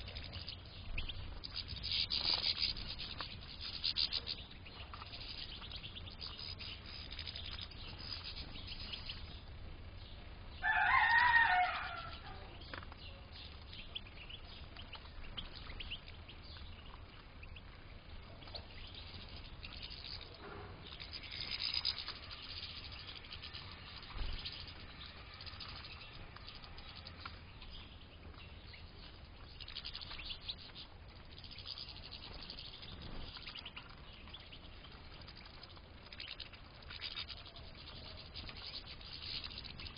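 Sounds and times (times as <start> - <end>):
finches twittering and chirping: 0.0 - 39.9.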